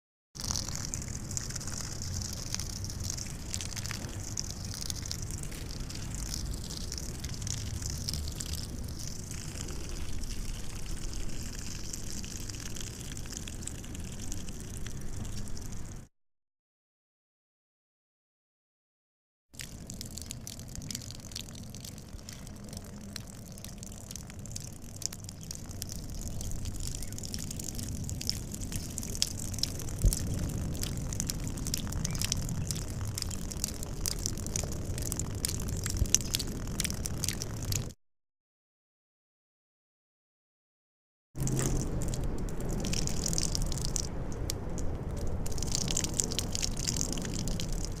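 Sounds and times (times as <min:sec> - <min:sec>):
person urinating: 0:00.4 - 0:16.1, 0:19.6 - 0:38.0, 0:41.4 - 0:48.0.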